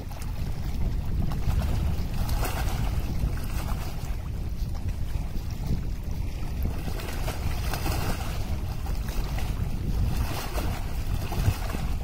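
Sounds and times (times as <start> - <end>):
lake waves lapping: 0.0 - 12.0
wind on microphone: 0.0 - 12.0.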